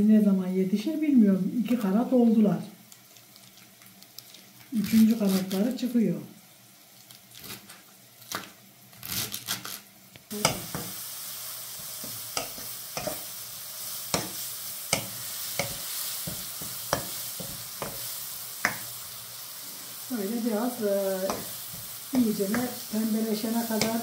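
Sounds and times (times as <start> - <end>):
leeks sizzling in hot oil: 0.8 - 24.0.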